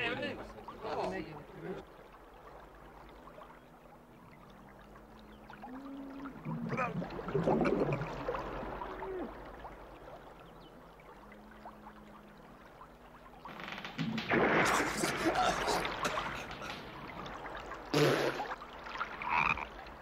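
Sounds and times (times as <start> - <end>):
underwater bubbling and gurgling: 0.5 - 20.0.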